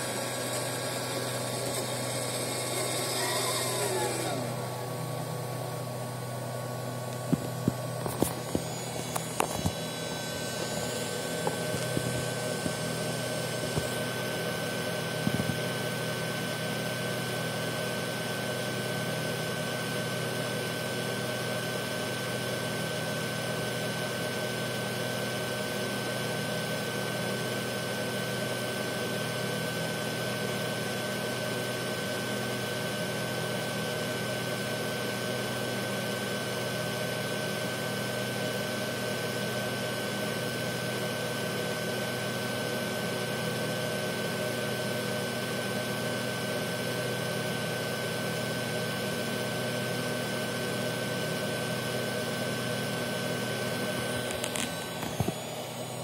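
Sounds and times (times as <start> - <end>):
motor hum with high whine: 0.0 - 56.0.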